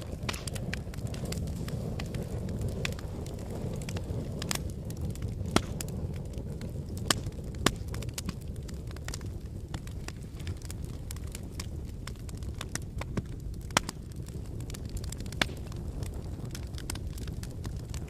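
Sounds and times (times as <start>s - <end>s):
wood fire burning: 0.0s - 18.0s.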